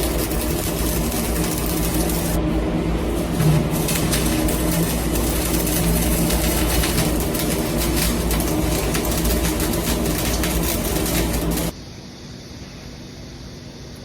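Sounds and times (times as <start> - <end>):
gas torch flame hissing: 0.0 - 11.8.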